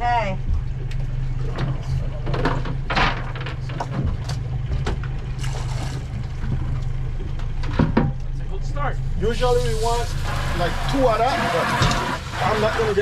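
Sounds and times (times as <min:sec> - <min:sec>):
boat motor idling: 0:00.0 - 0:13.0.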